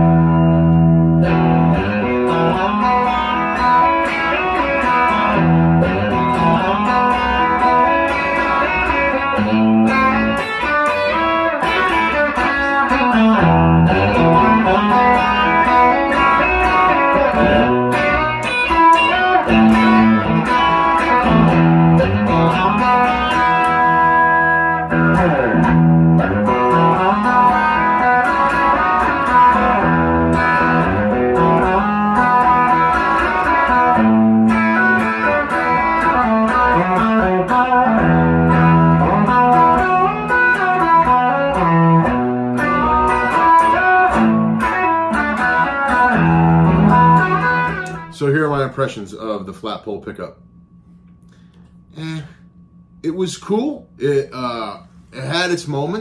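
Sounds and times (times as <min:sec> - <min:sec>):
electric guitar playing: 0:00.0 - 0:49.4.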